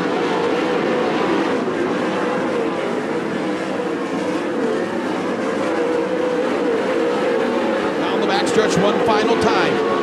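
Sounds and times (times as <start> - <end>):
race car engines running hard: 0.0 - 10.0.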